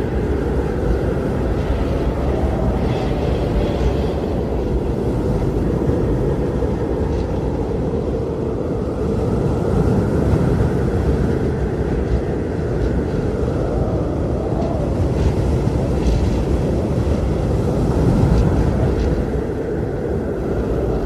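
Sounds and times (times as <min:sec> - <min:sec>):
blizzard wind rumbling: 0:00.0 - 0:21.0
faint wind howl: 0:00.0 - 0:21.0.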